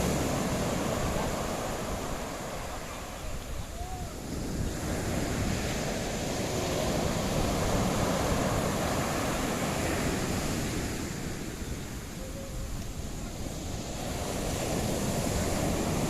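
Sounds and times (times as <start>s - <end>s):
surf washing on a beach: 0.0s - 16.0s
wind buffeting microphone: 0.0s - 16.0s.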